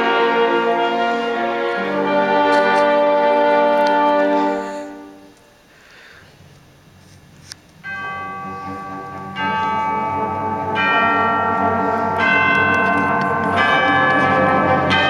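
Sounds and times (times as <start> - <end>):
orchestra playing held chords: 0.0 - 5.4, 7.8 - 15.0.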